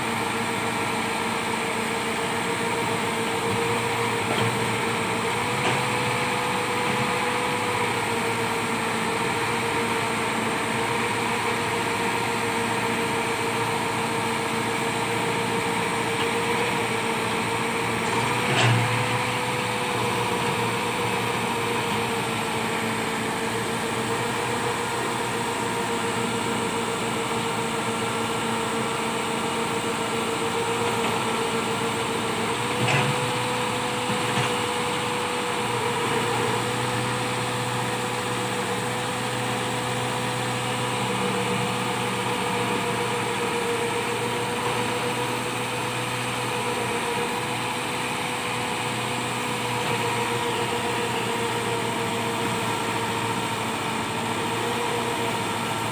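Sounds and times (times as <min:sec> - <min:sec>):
tractor diesel engine droning: 0:00.0 - 0:55.9.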